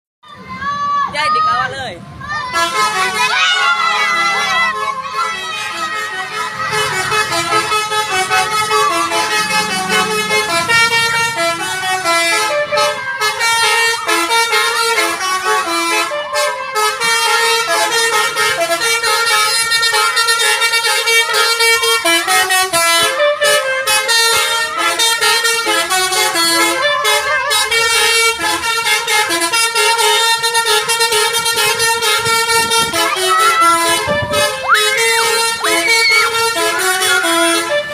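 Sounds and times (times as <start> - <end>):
multi-tone musical air horn: 2.5 - 37.9.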